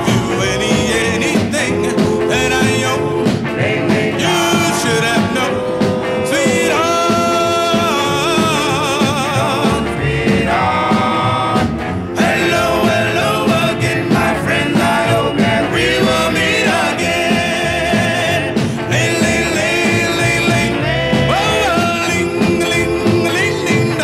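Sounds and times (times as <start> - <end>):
band accompaniment: 0.0 - 24.0
person singing with vibrato: 0.0 - 24.0.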